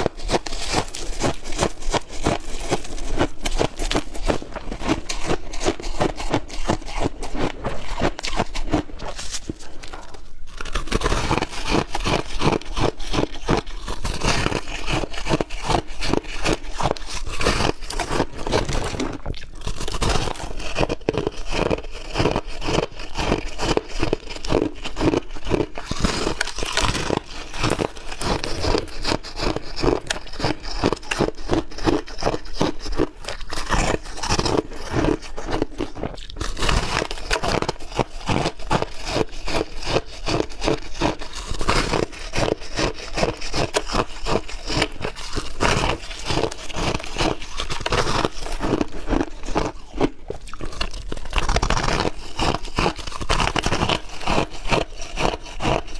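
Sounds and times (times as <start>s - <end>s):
ice being chewed and crunched: 0.0s - 55.9s.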